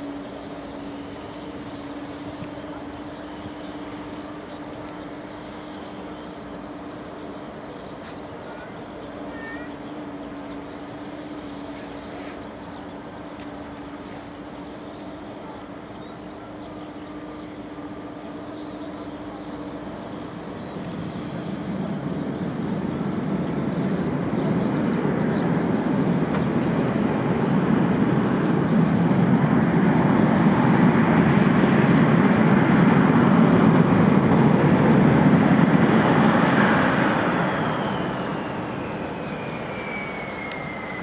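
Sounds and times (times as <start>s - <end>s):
faint bird chirps: 0.0s - 31.5s, 36.8s - 41.0s
airport background roar: 0.0s - 41.0s
constant low hum: 0.0s - 41.0s.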